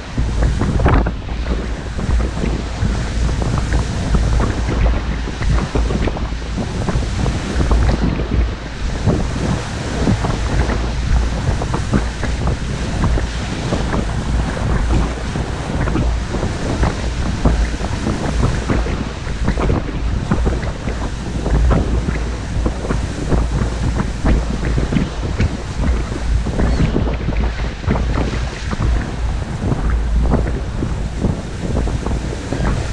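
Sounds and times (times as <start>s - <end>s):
waves breaking on shore: 0.0s - 32.9s
wind buffeting microphone: 0.0s - 32.9s.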